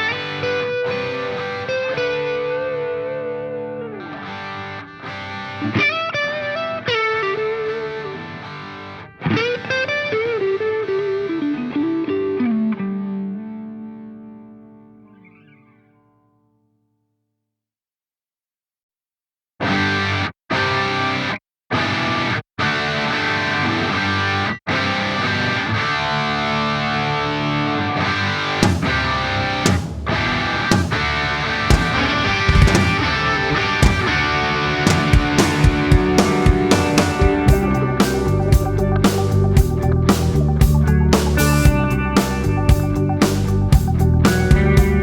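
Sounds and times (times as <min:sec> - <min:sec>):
electric guitar melody: 0:00.0 - 0:16.3, 0:19.7 - 0:45.0.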